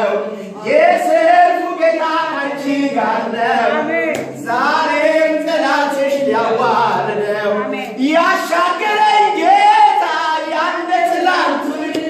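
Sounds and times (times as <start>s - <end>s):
voices chanting in worship: 0.0s - 12.0s.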